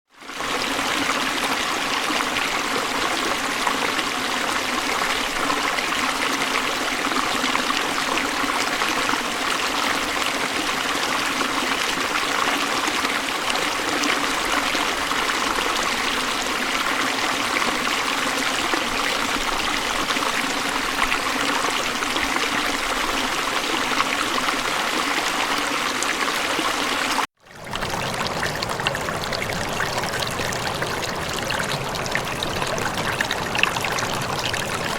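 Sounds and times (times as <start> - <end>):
stream of water flowing: 0.1 - 34.9.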